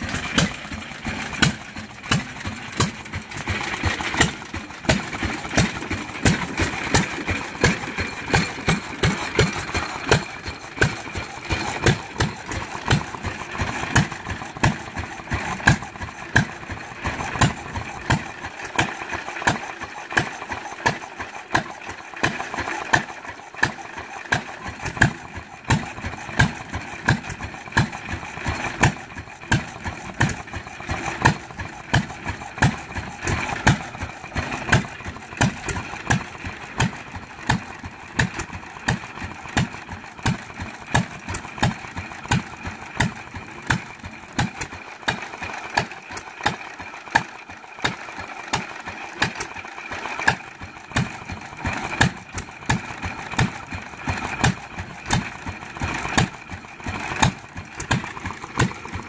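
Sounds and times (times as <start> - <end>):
stationary gas engines popping: 0.0 - 59.0.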